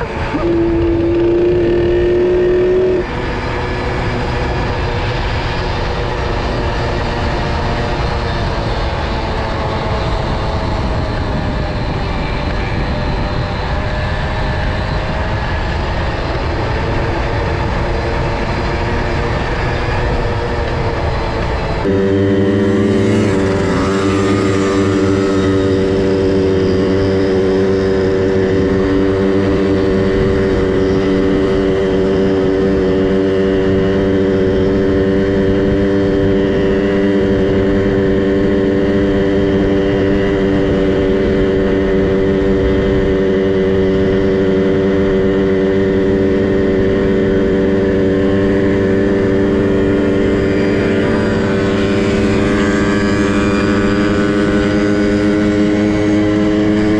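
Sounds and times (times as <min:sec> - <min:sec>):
small two-stroke engine running: 0:00.0 - 0:56.9.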